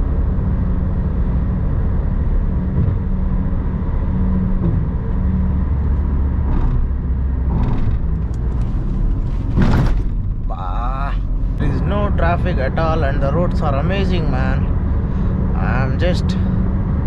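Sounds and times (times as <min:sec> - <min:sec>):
car engine hum: 0:00.0 - 0:17.0
road and tyre noise: 0:00.0 - 0:17.0.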